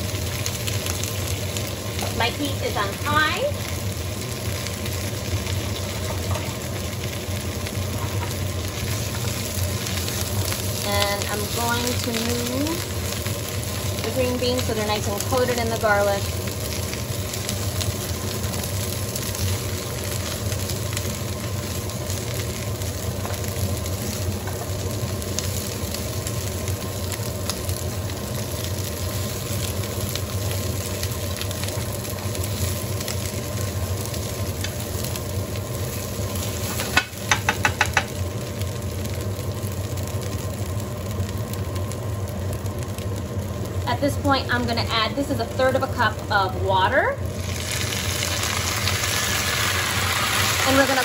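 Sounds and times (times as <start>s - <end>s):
beans sizzling in a pan: 0.0s - 51.0s.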